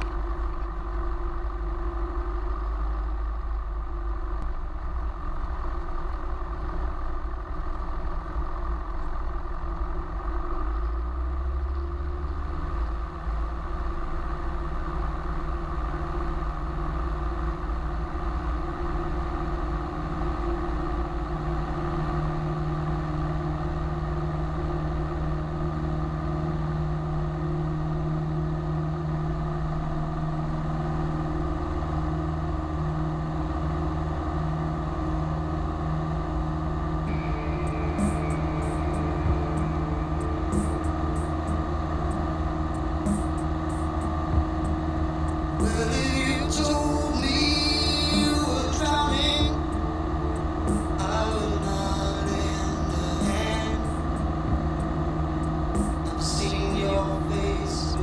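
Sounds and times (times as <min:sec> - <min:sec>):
plane engine and propeller: 0:00.0 - 0:58.0.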